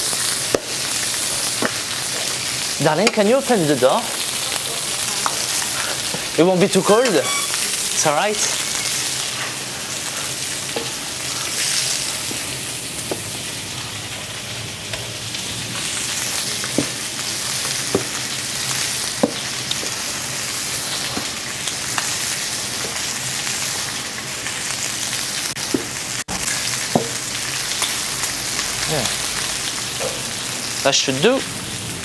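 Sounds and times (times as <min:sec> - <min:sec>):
chicken sizzling in oil: 0:00.0 - 0:32.0.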